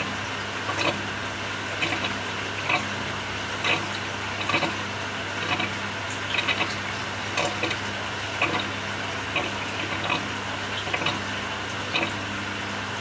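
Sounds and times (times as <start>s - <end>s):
motor hum: 0.0s - 13.0s
washing machine water sloshing: 0.0s - 13.0s.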